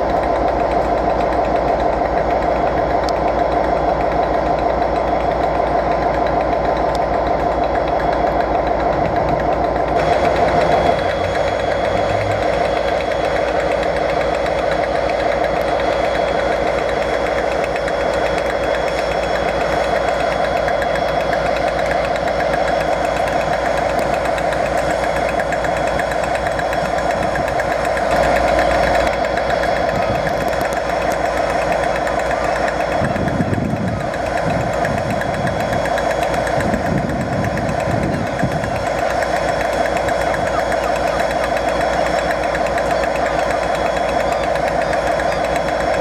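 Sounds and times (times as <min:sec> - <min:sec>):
diesel train engine idling: 0:00.0 - 0:46.0.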